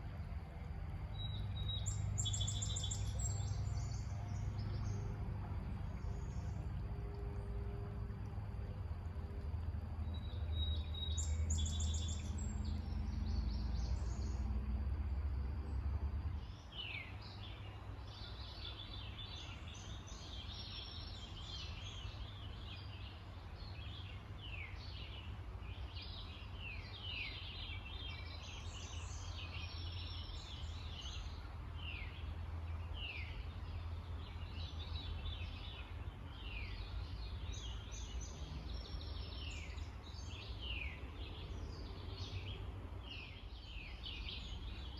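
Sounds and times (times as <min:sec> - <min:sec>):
low steady rumble: 0:00.0 - 0:44.9
wild birds singing: 0:00.0 - 0:44.9.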